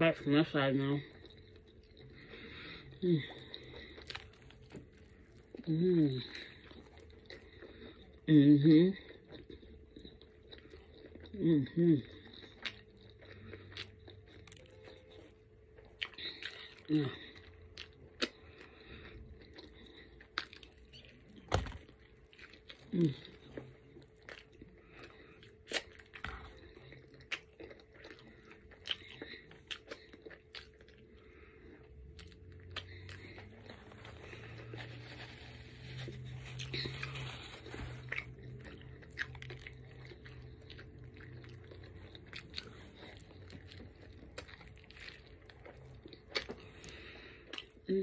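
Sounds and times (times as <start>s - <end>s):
person chewing sandwich: 0.1s - 48.0s.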